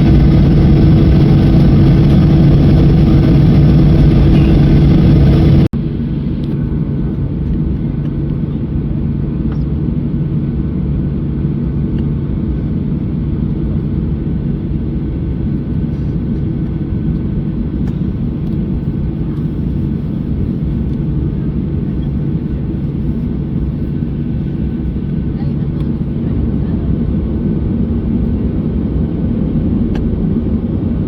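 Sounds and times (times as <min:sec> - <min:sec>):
jet engine and airflow rumble: 0:00.0 - 0:31.0.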